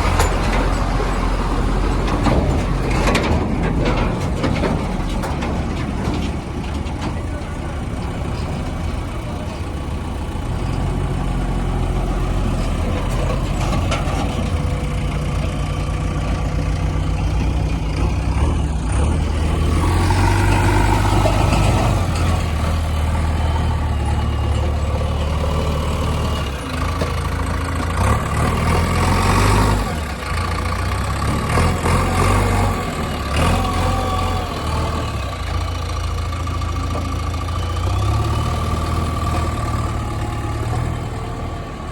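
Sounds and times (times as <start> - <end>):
diesel engine of backhoe loader: 0.0 - 41.9.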